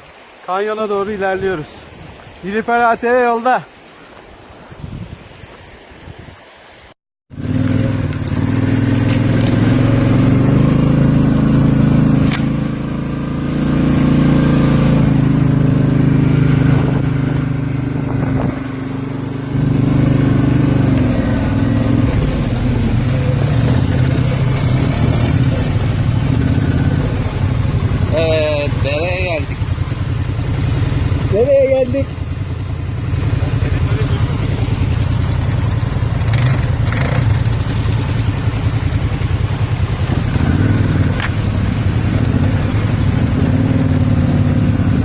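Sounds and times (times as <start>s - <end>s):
atv engine running: 7.3s - 45.0s.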